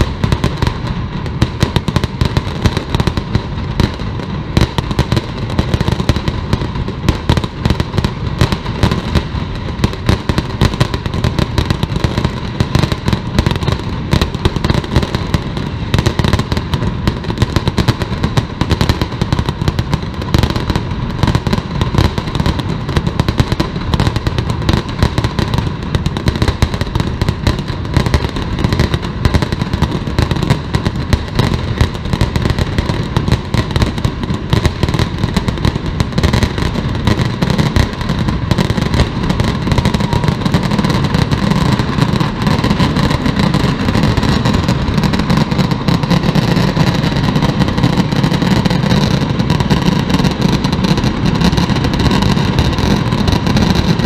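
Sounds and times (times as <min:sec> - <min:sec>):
firecrackers barrage: 0:00.0 - 0:54.0.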